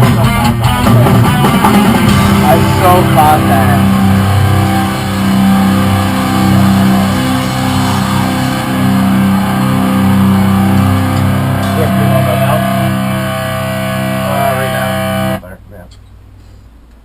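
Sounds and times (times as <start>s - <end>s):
distorted electric guitar chords: 0.0s - 15.4s.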